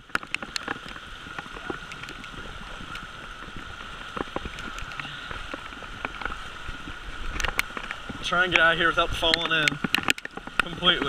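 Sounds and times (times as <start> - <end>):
rain hissing on water: 0.0 - 11.0
raindrops tapping close by: 0.0 - 11.0.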